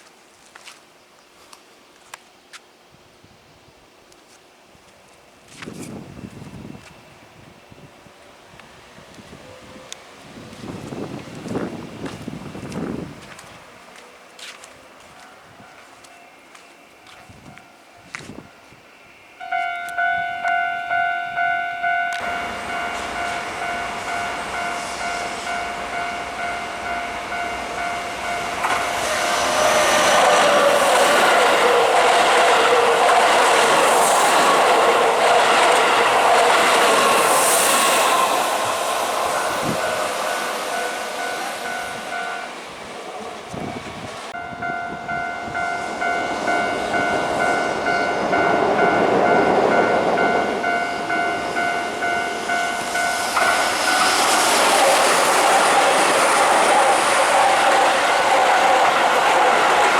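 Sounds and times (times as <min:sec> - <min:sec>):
electric train passing: 0:04.6 - 0:59.9
level-crossing warning bells ringing: 0:10.8 - 0:59.9.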